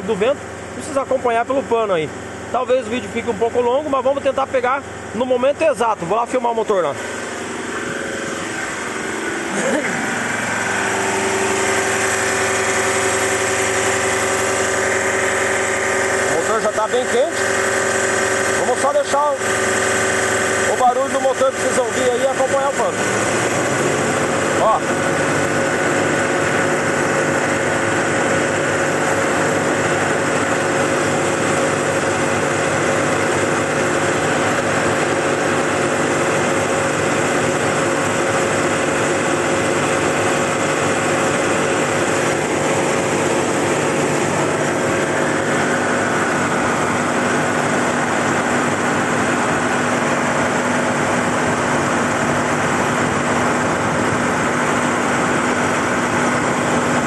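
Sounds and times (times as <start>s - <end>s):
diesel engine running: 0.0s - 57.0s
rush of fan wind: 0.0s - 57.0s.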